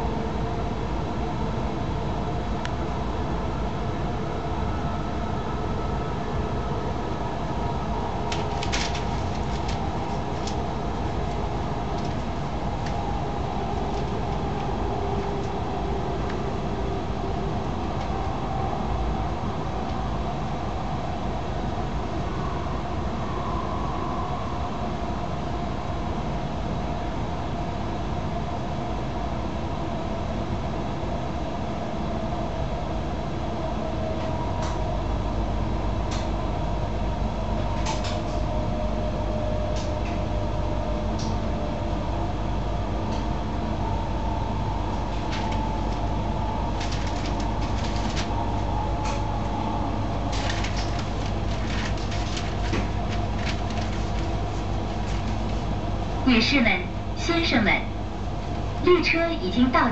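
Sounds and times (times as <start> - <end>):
train cabin running noise: 0.0 - 59.9.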